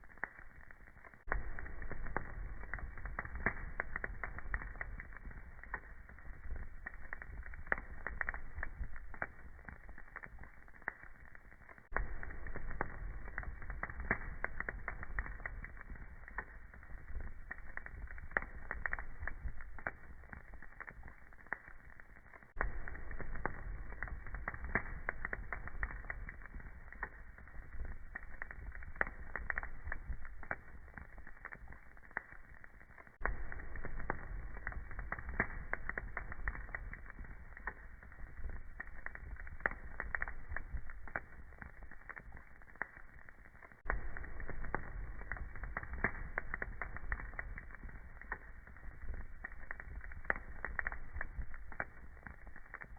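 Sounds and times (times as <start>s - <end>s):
low rumble of burning logs: 0.0s - 52.9s
wood fire crackling: 0.0s - 52.9s.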